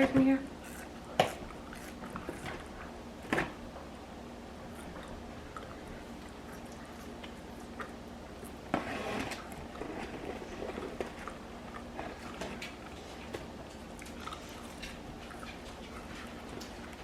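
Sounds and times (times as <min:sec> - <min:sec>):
person chewing fries: 0:00.6 - 0:03.0, 0:04.7 - 0:17.0.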